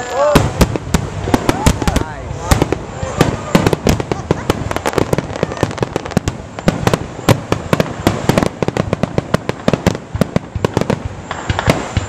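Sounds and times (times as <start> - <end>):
firework shell bursts and bangs: 0.0 - 12.0.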